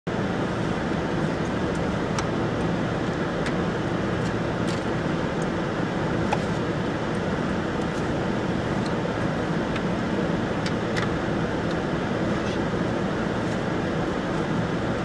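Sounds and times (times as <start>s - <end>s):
van engine idling: 0.1s - 15.0s.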